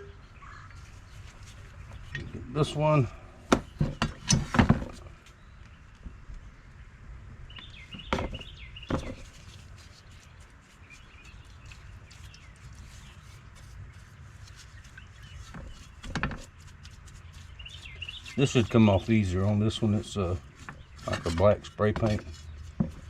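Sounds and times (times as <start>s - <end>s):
small birds chirping: 0.0s - 4.3s, 5.0s - 23.0s.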